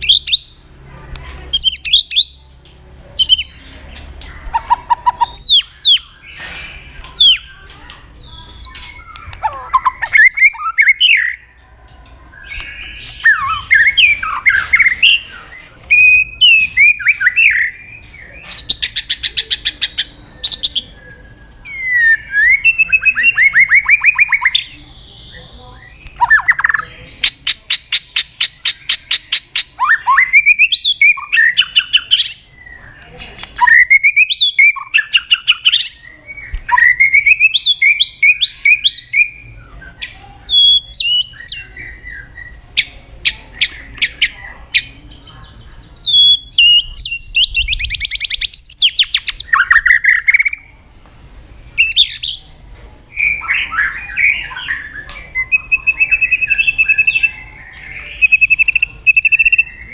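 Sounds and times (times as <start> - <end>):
songbird whistles and trills: 0.0 - 2.4, 3.1 - 11.6, 12.3 - 52.5, 53.1 - 59.9.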